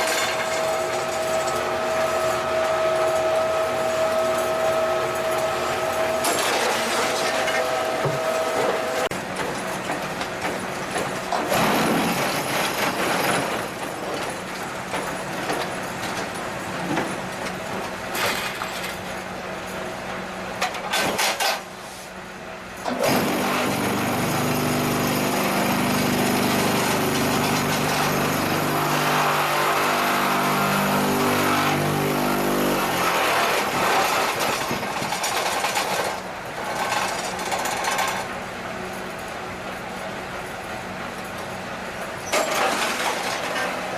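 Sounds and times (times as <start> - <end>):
concrete block machine working: 0.0 - 19.4, 22.8 - 39.9, 40.5 - 43.9.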